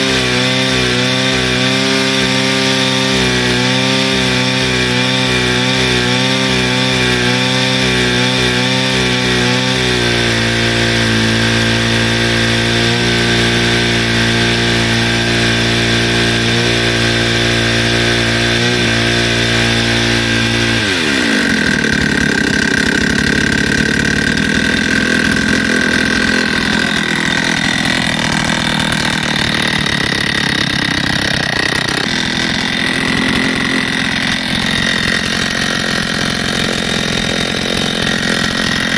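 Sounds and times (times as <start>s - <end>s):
brushcutter engine idling and revving: 0.0s - 38.9s.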